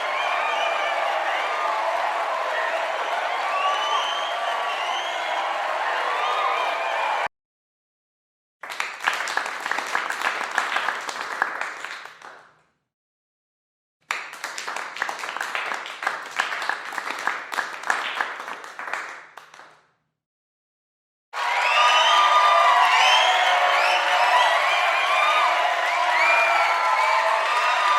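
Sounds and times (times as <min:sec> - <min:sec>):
group applauding: 0:00.0 - 0:07.3, 0:08.6 - 0:12.5, 0:14.0 - 0:19.8, 0:21.4 - 0:27.9.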